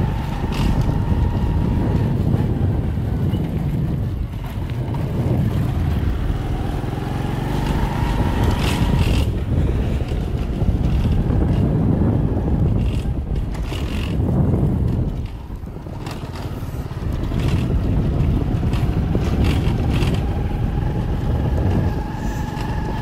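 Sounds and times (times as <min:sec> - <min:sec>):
vehicle engine and road noise: 0:00.0 - 0:23.0
wind buffeting microphone: 0:00.0 - 0:23.0.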